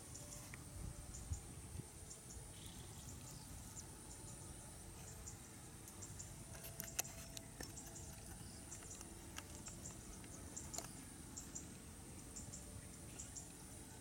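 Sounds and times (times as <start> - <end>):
high insect drone: 0.0 - 14.0
small high ticks and chirps: 0.0 - 14.0.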